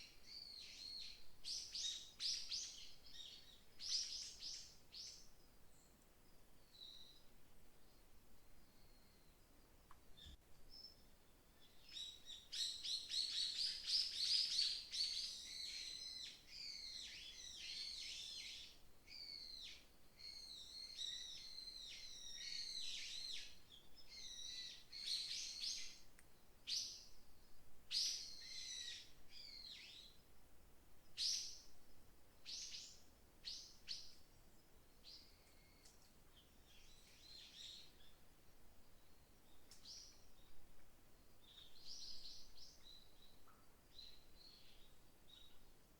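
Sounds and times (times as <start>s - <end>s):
songbirds chirping and trilling: 0.0s - 30.3s, 31.0s - 45.9s.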